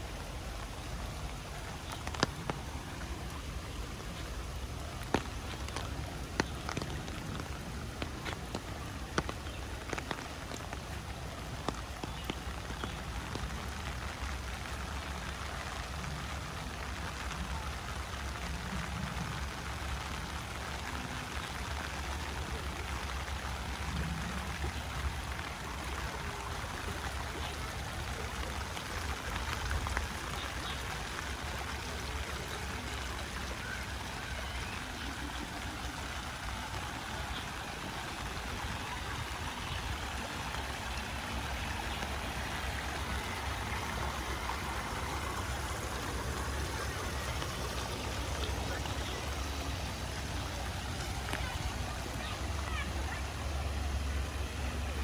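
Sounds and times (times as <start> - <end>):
small river gurgling: 0.0 - 55.0
steady rain falling: 0.0 - 55.0.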